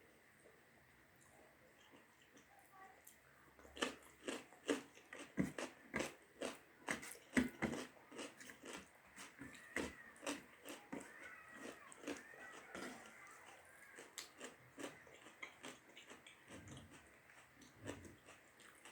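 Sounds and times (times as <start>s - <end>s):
person chewing with mouth clicks: 1.8s - 18.9s.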